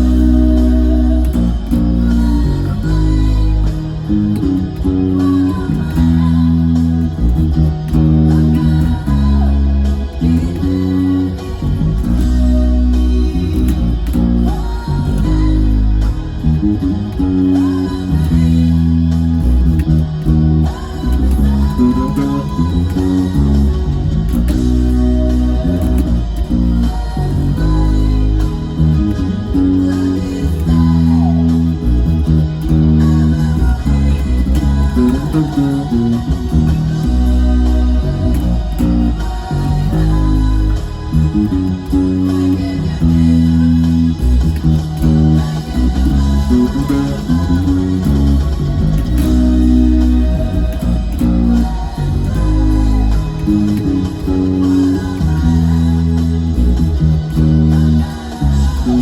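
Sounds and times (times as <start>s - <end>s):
electric bass guitar: 0.0s - 59.0s
rock ballad with guitars: 0.0s - 59.0s.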